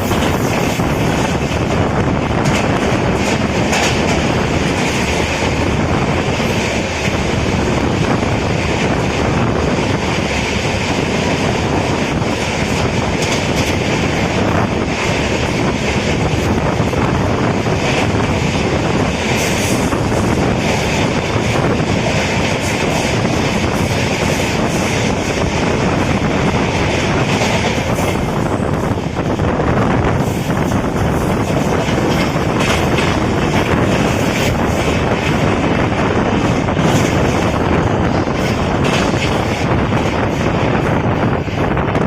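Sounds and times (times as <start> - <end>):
train rumbling and rattling on rails: 0.0 - 42.0.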